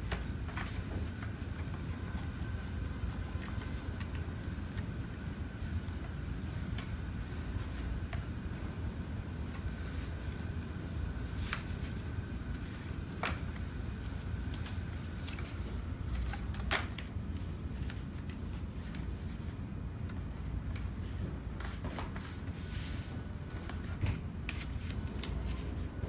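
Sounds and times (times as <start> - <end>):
paperboard rustling and scraping: 0.0 - 8.6, 9.3 - 26.0
low room hum: 0.0 - 26.0.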